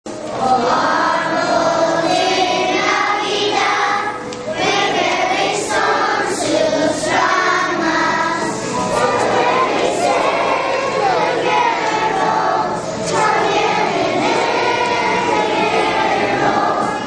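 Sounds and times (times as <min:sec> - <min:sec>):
children's choir singing: 0:00.1 - 0:17.0.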